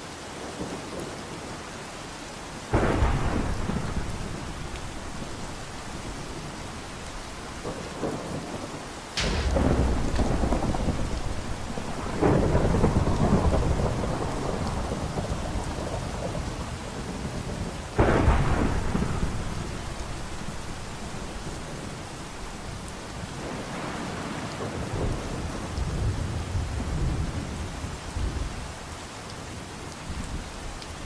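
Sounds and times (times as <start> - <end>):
steady rain: 0.0 - 31.0
thunderclaps rumbling: 2.7 - 28.6.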